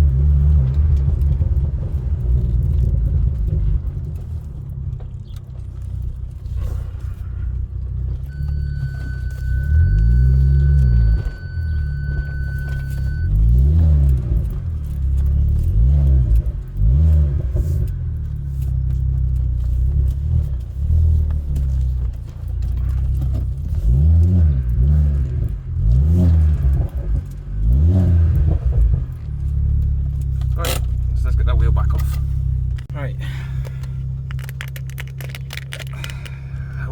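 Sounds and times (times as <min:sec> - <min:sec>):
car engine revving: 0:00.0 - 0:36.9.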